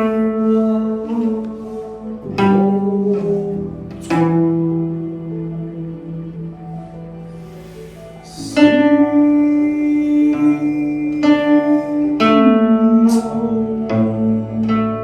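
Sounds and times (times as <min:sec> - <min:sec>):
long held string tones: 0:00.0 - 0:15.0
plucked string melody: 0:00.0 - 0:15.0.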